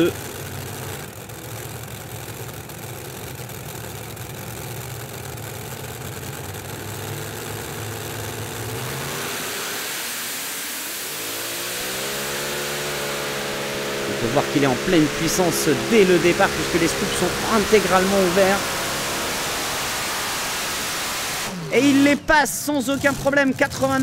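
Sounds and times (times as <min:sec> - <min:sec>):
tractor engines revving: 0:00.0 - 0:24.0.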